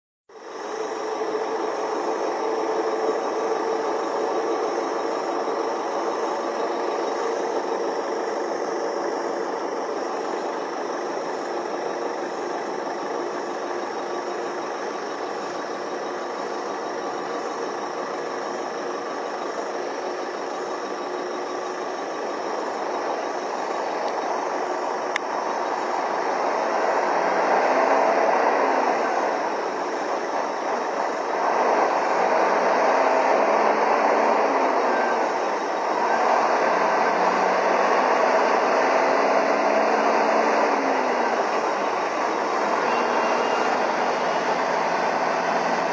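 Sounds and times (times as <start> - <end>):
truck engine running: 0.3 - 45.9.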